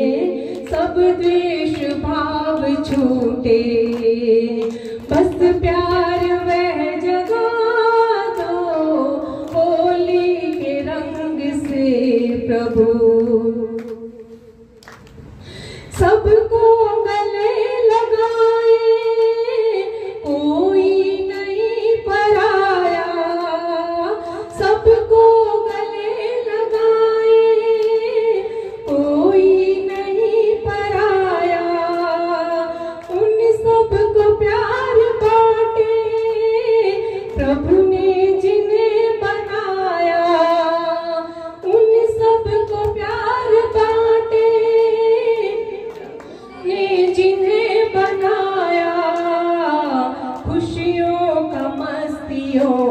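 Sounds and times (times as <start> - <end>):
woman singing through microphone: 0.0 - 14.3, 15.9 - 52.9.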